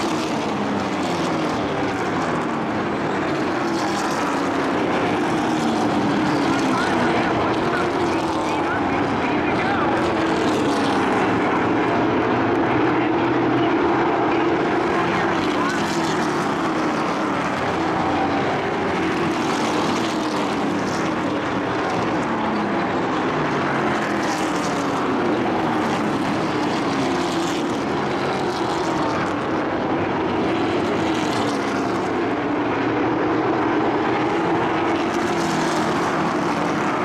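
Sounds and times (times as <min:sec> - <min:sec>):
racing truck engines: 0:00.0 - 0:37.0.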